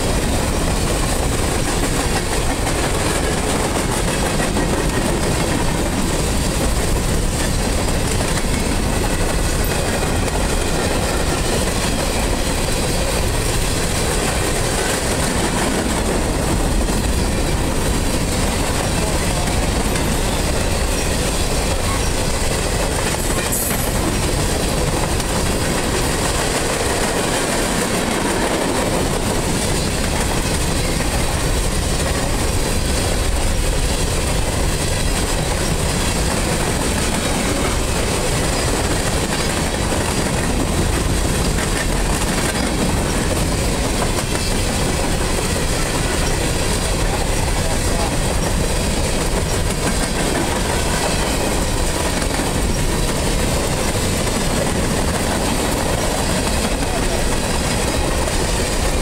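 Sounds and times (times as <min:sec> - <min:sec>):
freight cars rumbling and clattering: 0:00.0 - 0:59.0.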